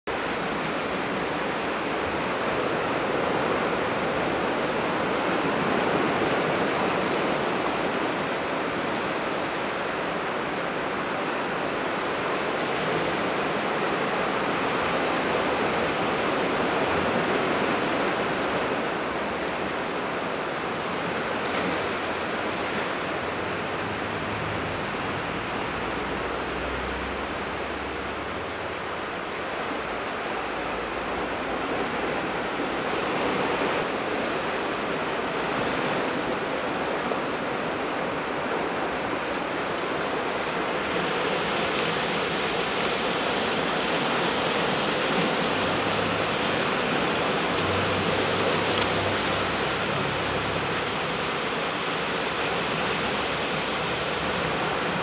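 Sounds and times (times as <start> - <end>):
waves washing against rocks: 0.1 - 55.0.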